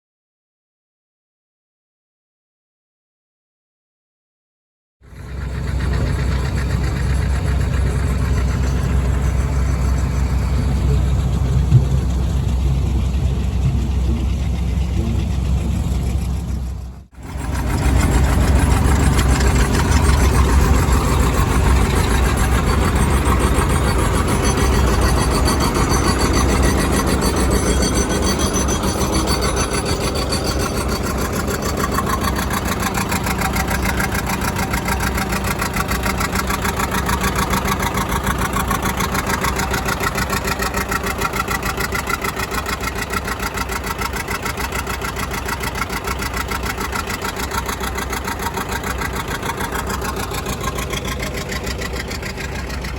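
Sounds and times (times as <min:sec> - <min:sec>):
engine running steadily: 0:05.0 - 0:52.9.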